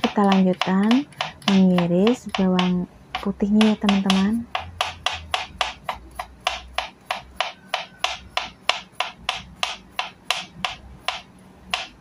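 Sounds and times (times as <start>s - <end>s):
knife tapping on cutting board: 0.0s - 12.0s.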